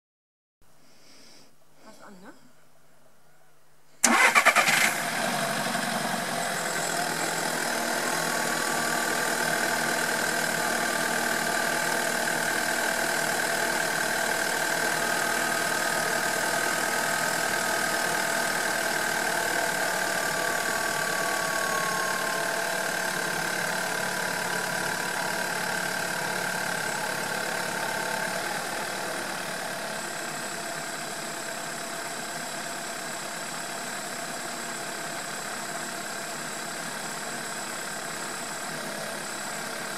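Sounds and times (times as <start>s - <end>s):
car engine starting and idling: 4.0s - 39.9s.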